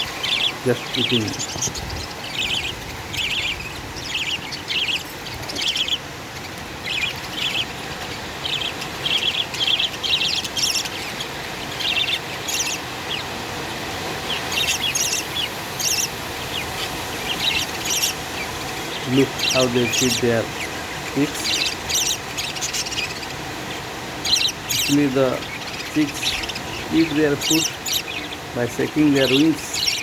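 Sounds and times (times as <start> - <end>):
budgerigars chirping: 0.0 - 30.0.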